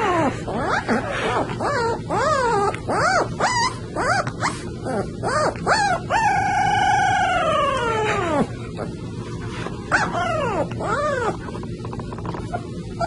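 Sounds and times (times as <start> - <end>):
puppy howling and yelping: 0.0 - 9.0, 9.9 - 11.6.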